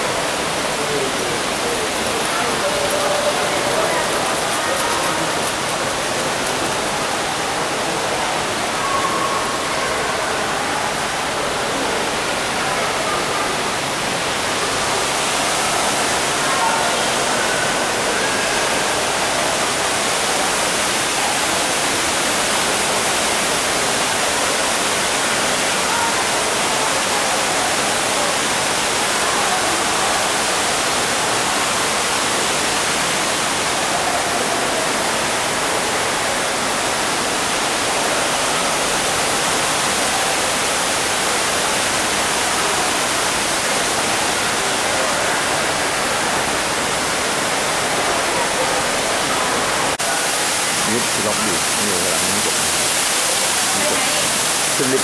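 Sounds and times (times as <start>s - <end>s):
waterfall rushing into pool: 0.0s - 55.0s.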